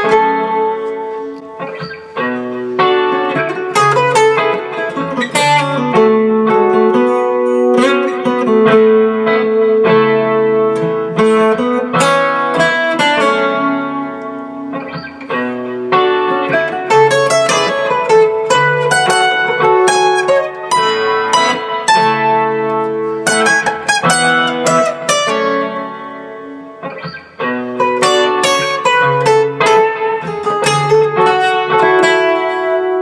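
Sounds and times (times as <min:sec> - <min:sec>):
fingerstyle acoustic guitar: 0:00.0 - 0:33.0.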